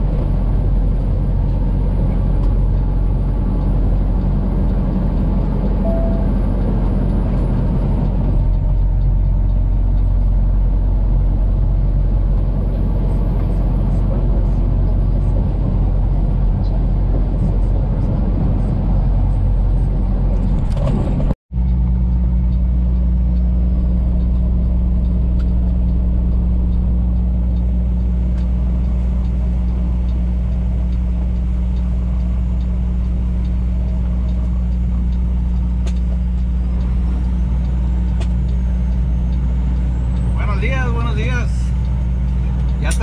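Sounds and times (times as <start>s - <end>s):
diesel truck engine droning: 0.0s - 43.0s
road noise: 0.0s - 43.0s.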